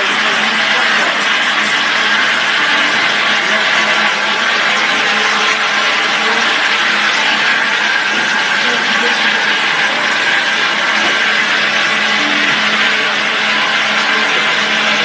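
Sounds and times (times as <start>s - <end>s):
filling machine rattling and hissing: 0.0s - 15.0s.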